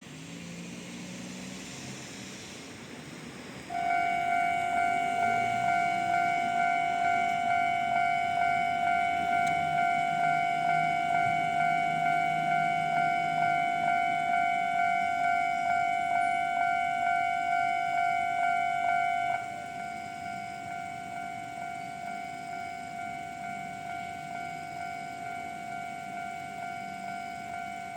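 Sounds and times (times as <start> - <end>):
level crossing alarm ringing: 3.7 - 27.9.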